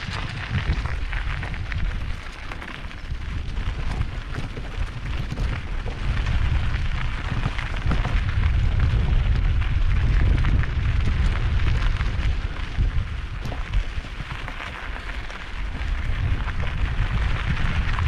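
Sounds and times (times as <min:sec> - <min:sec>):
bike tyres rolling on rocky trail: 0:00.0 - 0:18.0
wind buffeting microphone: 0:00.0 - 0:18.0.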